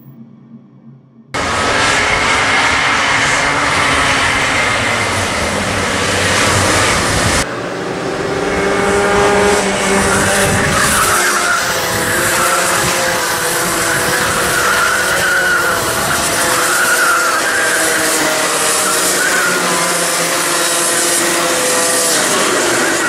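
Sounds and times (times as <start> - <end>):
racing kart engines at high revs: 1.4 - 23.0.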